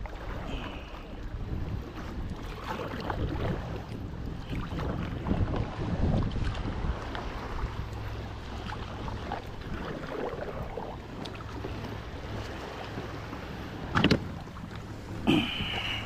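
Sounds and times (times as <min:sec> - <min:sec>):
water washing around kayak: 0:00.0 - 0:16.0
wind rumbling on microphone: 0:00.0 - 0:16.0.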